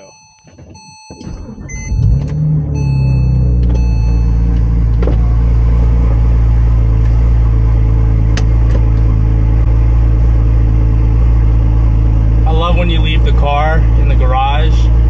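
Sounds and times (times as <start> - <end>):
car engine idling: 1.2 - 15.0.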